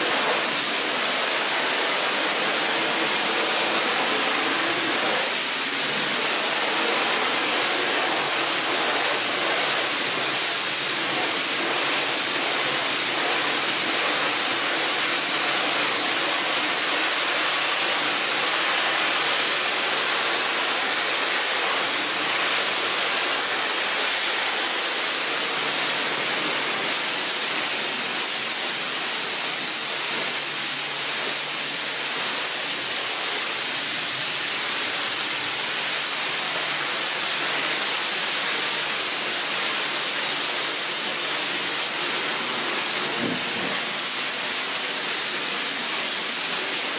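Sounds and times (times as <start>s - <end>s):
water spraying onto carpet: 0.0s - 46.9s.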